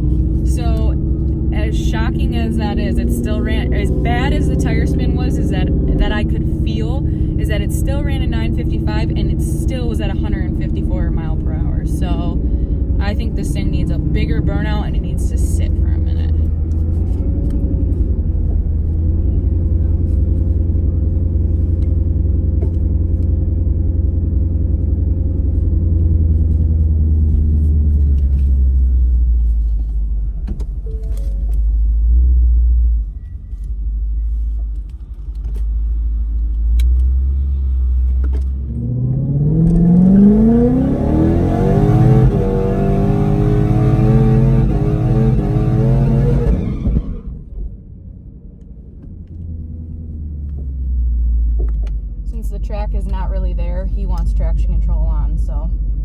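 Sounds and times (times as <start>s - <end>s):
car engine revving: 0.0s - 55.8s
car engine idling: 0.0s - 56.0s.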